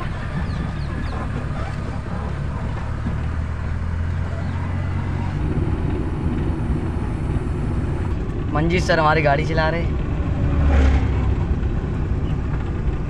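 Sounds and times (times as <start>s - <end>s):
van engine and road noise inside: 0.0s - 13.0s.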